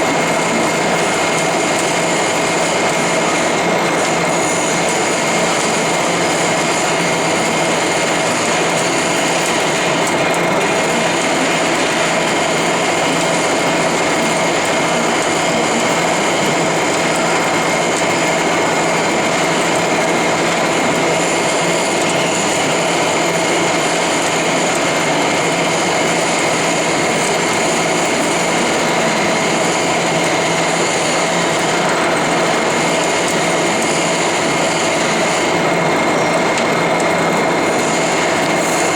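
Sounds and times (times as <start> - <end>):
lathe running with high whine: 0.0 - 38.9.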